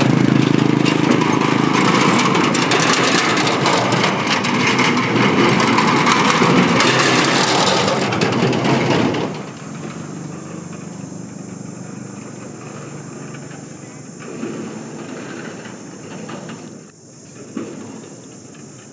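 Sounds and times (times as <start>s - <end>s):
bridge deck clattering: 0.0s - 18.9s
motorbike engines running: 0.0s - 18.9s.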